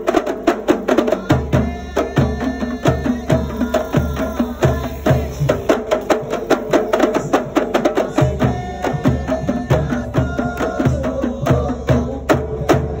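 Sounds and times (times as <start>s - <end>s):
deep drum strokes: 0.0s - 13.0s
frame drums beaten by hand: 0.0s - 13.0s.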